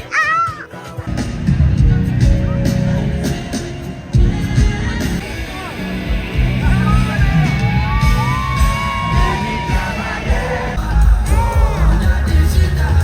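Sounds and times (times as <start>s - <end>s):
sung vocal: 0.0s - 13.0s
heavy pulsing bass: 1.1s - 13.0s.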